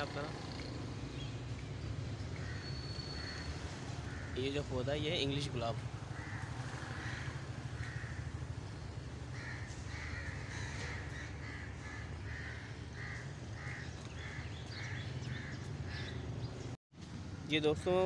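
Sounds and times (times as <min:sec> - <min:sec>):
bird harsh calls: 0:00.0 - 0:04.7, 0:05.9 - 0:16.8.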